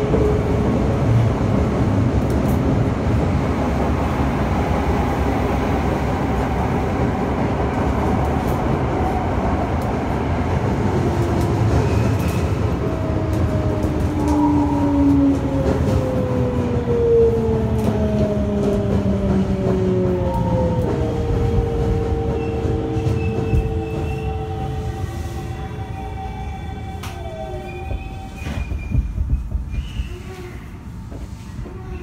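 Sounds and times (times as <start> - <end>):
subway train wheels and motors rumbling: 0.0 - 32.0.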